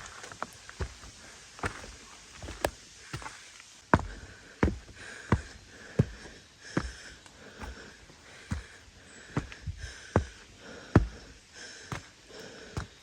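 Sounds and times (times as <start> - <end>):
footsteps walking: 0.0 - 11.2.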